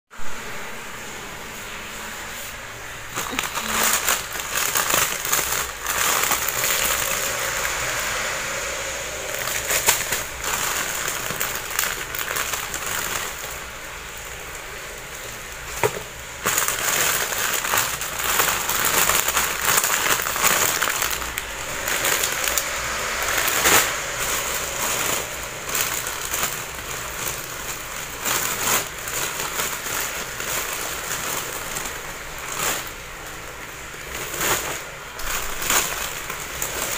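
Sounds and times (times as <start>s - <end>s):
plastic bag rustling and crinkling: 1.6s - 36.9s.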